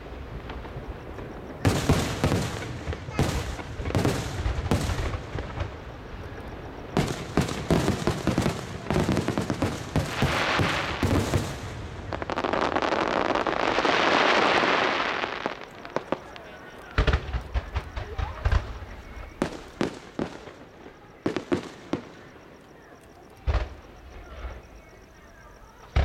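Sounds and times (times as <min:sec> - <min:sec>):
fireworks booming: 0:00.0 - 0:22.6, 0:23.3 - 0:25.0, 0:25.7 - 0:26.0
fireworks crackling hiss: 0:00.0 - 0:22.8.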